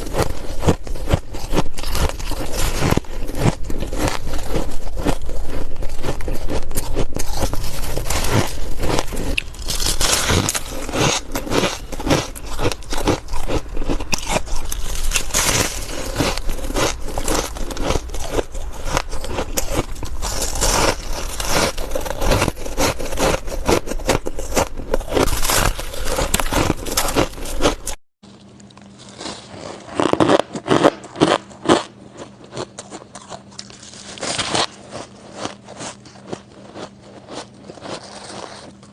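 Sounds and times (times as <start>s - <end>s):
ice being chewed: 0.0s - 38.9s
low steady hum: 0.0s - 38.9s.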